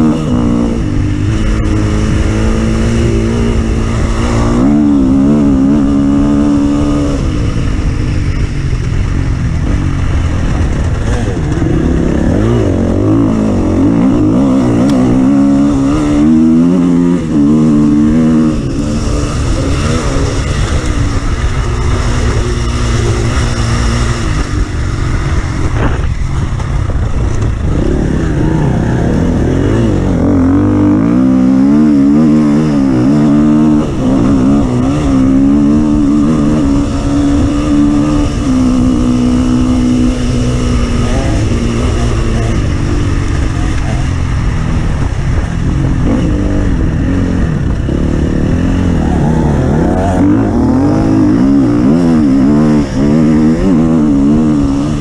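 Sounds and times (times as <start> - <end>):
offroad vehicle engine revving: 0.0 - 55.0.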